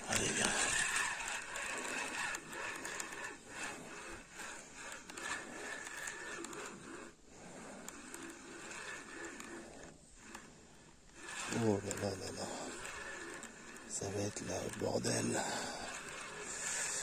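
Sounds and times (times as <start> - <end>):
fishing rod and reel scraping: 0.0 - 17.0.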